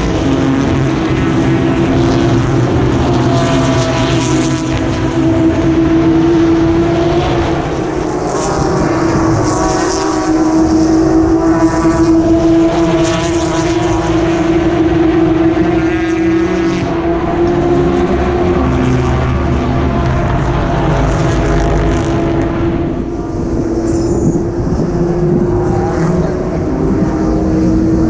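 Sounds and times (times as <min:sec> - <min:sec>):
race cars passing at high revs: 0:00.0 - 0:28.0.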